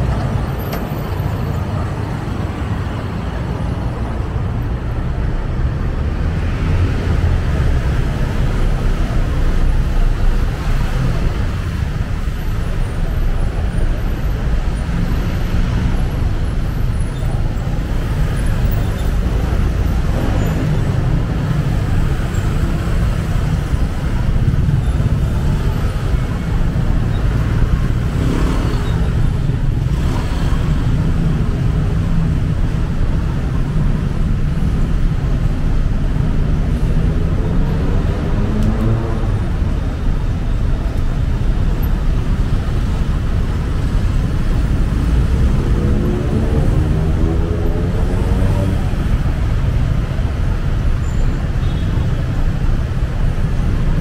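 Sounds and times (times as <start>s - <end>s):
surrounding traffic: 0.0s - 54.0s
wind and road noise: 0.0s - 54.0s.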